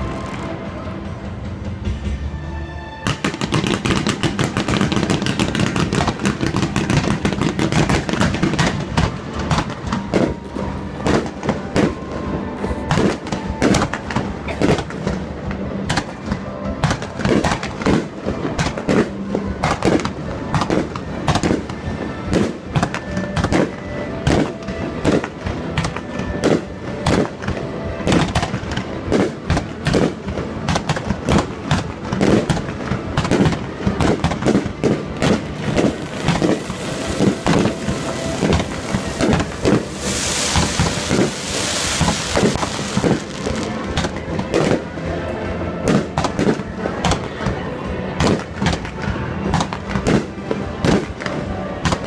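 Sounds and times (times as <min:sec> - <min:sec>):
music playing: 0:00.0 - 0:52.0
fireworks bangs and crackles: 0:03.0 - 0:52.0.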